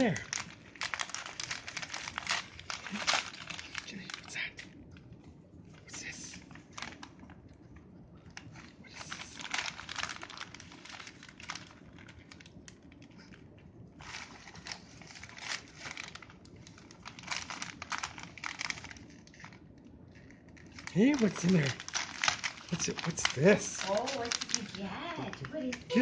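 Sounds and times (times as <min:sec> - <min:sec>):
wrapping paper crinkling and tearing: 0:00.0 - 0:04.8, 0:06.3 - 0:07.3, 0:08.4 - 0:13.4, 0:14.0 - 0:26.0.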